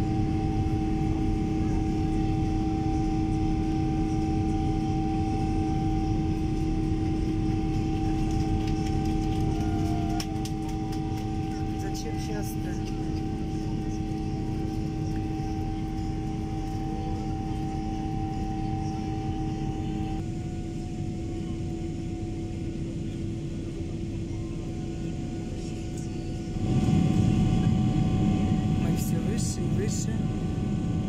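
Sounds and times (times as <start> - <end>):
engine hum: 0.0 - 21.5, 25.0 - 31.0
airliner engine noise in cabin: 0.0 - 31.0.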